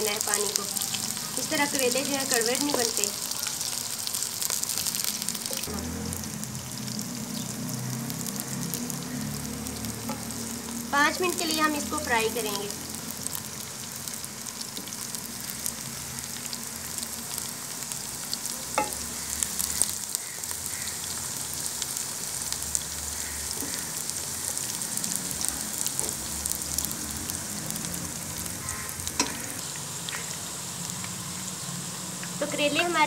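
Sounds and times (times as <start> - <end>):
frying sizzle with crackling pops: 0.0 - 33.0.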